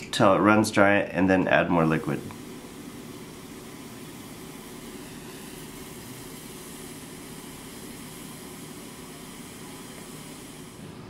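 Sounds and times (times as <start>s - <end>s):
vape coils sizzling: 1.7s - 11.0s.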